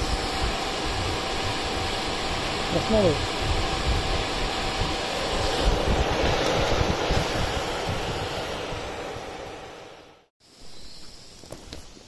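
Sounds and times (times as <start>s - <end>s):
gusty low rumble: 0.0s - 10.2s
cooling fan rushing air: 0.0s - 10.3s.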